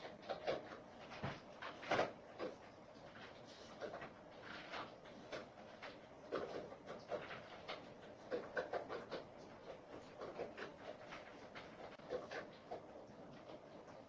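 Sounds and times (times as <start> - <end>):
dog chewing: 0.0 - 14.0.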